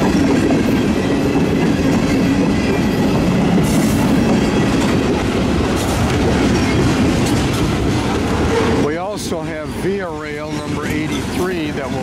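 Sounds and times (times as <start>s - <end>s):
freight cars rumbling on rails: 0.0s - 12.0s.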